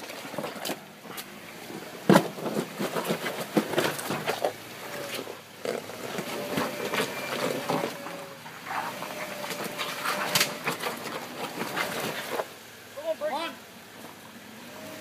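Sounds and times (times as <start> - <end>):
tyres crunching over rock: 0.0 - 12.6.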